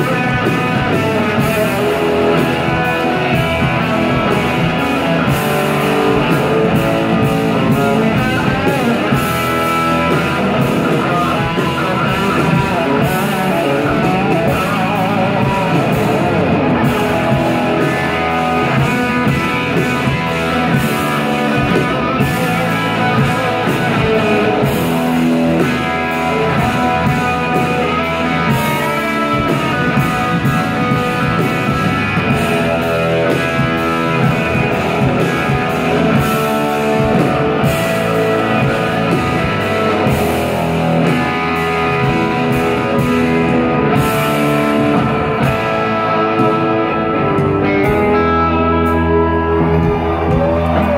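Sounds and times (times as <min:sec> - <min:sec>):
electric guitar: 0:00.0 - 0:50.9
rock band playing: 0:00.0 - 0:50.9.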